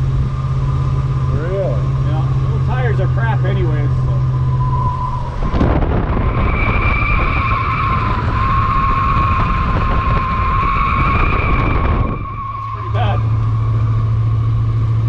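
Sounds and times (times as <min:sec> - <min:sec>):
car rumbling on road: 0:00.0 - 0:15.0
car tires squealing: 0:02.7 - 0:15.0.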